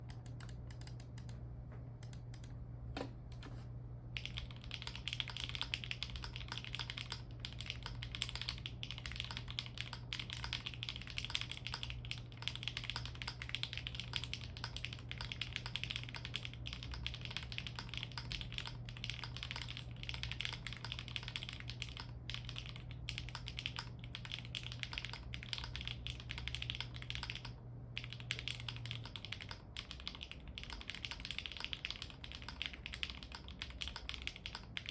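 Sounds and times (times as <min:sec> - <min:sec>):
mechanical keyboard typing: 0:00.0 - 0:01.4, 0:04.2 - 0:34.9
low steady hum: 0:00.0 - 0:34.9.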